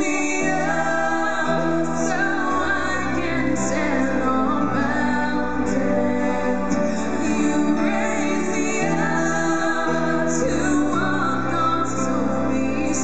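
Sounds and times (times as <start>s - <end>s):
women singing a slow ballad: 0.0s - 13.0s.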